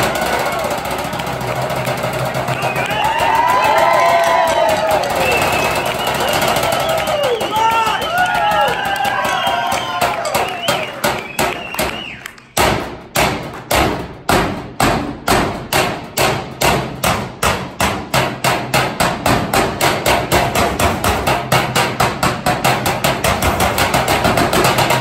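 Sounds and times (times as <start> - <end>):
snare drum hits: 0.0 - 25.0.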